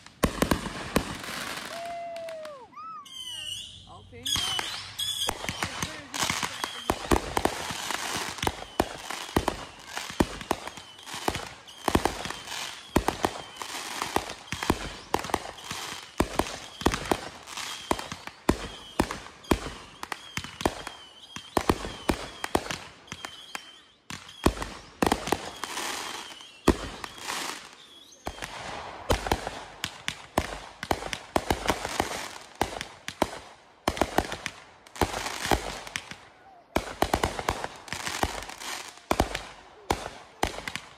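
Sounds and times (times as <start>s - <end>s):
fireworks bangs and pops: 0.0s - 3.6s, 4.2s - 40.9s.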